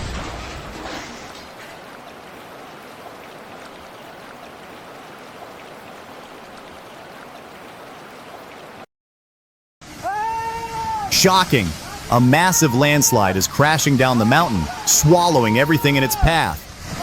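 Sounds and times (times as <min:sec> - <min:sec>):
water rushing: 0:00.0 - 0:08.9, 0:09.8 - 0:17.0.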